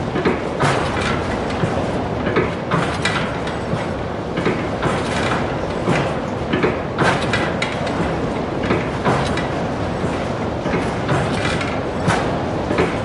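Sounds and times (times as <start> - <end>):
windmill mechanism knocking and clicking: 0.0 - 13.0.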